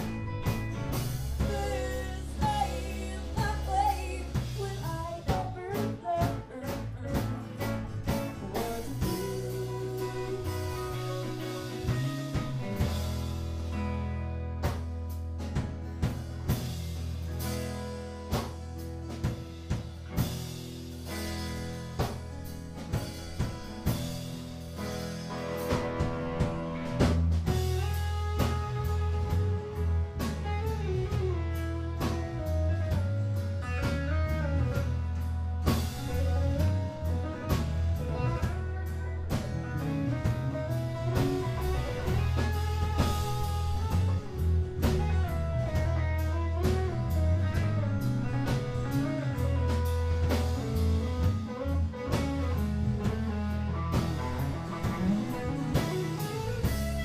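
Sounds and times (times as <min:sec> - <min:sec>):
steady drum beat: 0:00.0 - 0:13.9, 0:14.6 - 0:57.0
electric bass: 0:00.0 - 0:57.0
electric guitar melody: 0:00.0 - 0:57.0.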